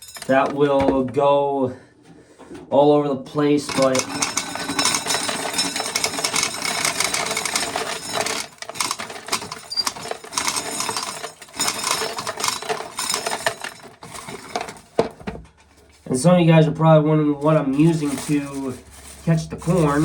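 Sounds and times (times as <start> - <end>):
corn sheller clattering: 0.0 - 1.1, 3.5 - 16.2, 17.4 - 20.0.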